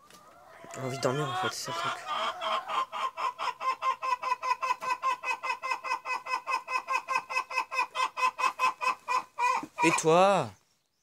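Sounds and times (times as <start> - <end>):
chicken clucking rapidly: 0.0 - 10.2.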